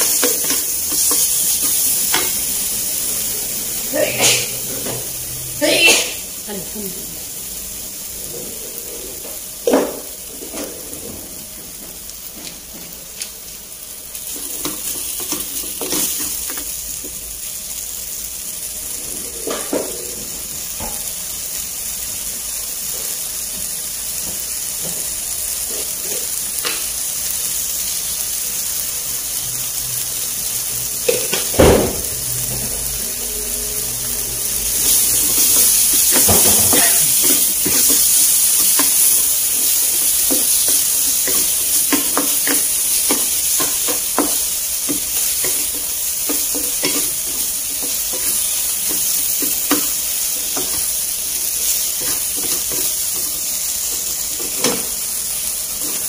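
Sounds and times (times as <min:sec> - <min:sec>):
vegetables sizzling in frying pan: 0:00.0 - 0:56.0.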